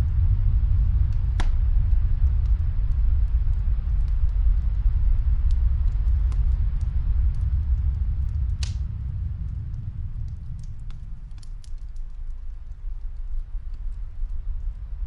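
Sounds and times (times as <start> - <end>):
snowstorm wind rumble: 0.0 - 15.0
wood fire crackling: 0.0 - 15.0.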